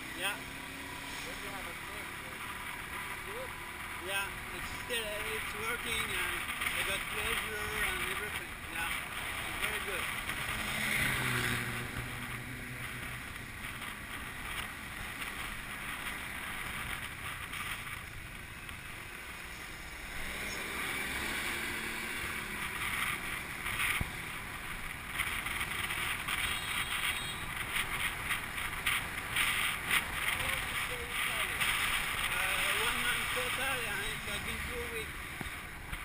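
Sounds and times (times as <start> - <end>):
traffic noise: 0.0 - 36.0.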